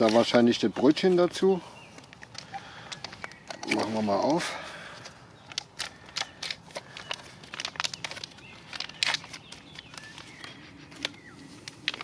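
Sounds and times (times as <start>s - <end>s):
plastic pouch crinkling: 0.0s - 4.4s, 5.0s - 12.0s.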